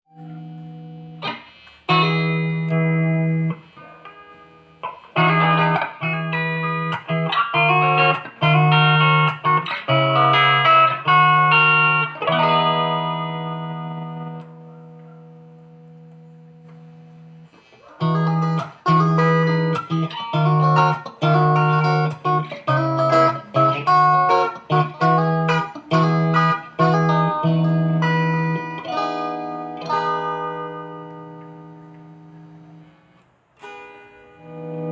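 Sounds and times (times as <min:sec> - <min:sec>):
electric guitar picked notes: 0:00.1 - 0:34.9.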